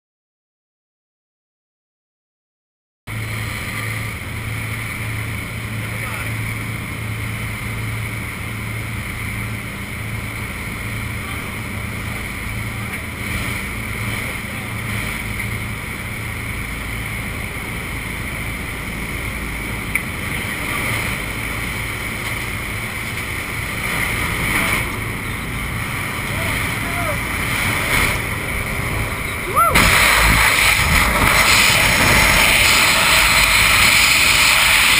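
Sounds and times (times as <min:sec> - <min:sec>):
aircraft engines droning: 0:03.1 - 0:34.9
rushing wind: 0:03.1 - 0:34.9.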